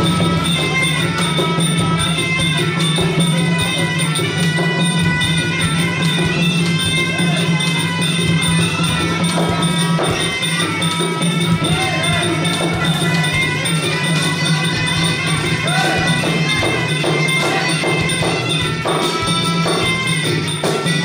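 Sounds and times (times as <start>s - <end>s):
reed oboe melody: 0.0s - 21.0s
small cymbals: 0.0s - 21.0s
steady drumming: 0.0s - 21.0s.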